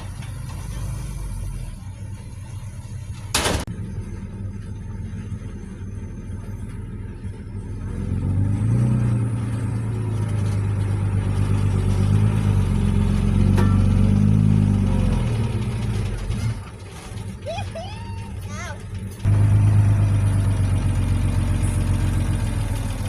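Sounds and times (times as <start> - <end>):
heavy diesel engine revving: 0.0 - 17.4, 18.8 - 23.0.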